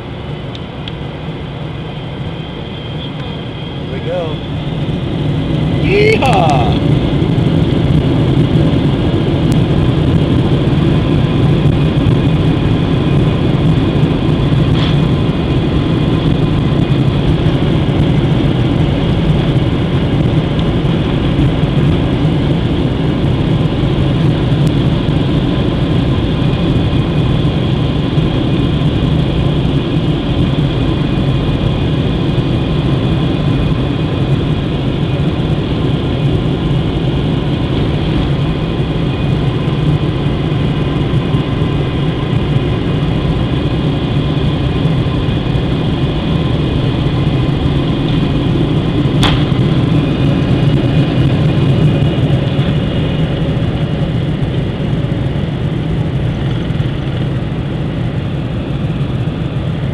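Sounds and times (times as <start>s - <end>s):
high engine whine: 0.0s - 59.9s
jet engines rumbling: 0.0s - 59.9s.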